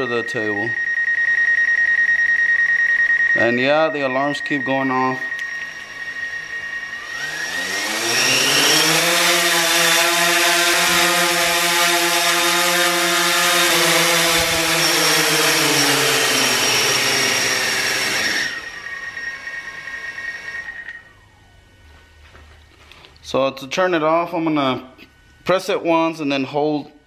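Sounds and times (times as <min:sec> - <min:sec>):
drone propellers whining: 0:00.0 - 0:23.1.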